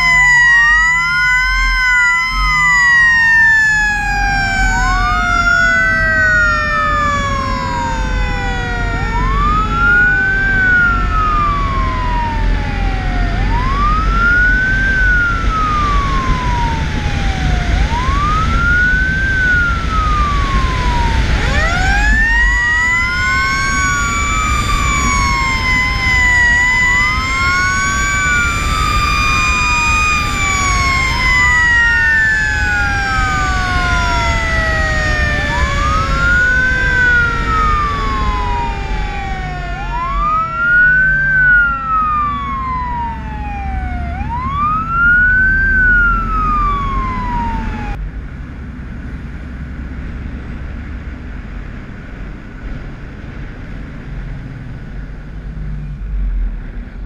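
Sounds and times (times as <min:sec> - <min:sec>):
fire truck siren wailing: 0:00.0 - 0:48.0
siren tone winding up and down: 0:00.0 - 0:48.0
diesel engine rumble: 0:00.0 - 0:57.0
road noise: 0:00.0 - 0:57.0.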